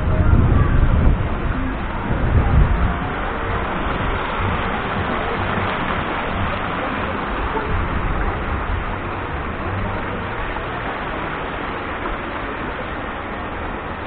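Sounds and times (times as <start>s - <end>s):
low road rumble: 0.0s - 14.0s
steady rushing wind noise: 0.0s - 14.0s.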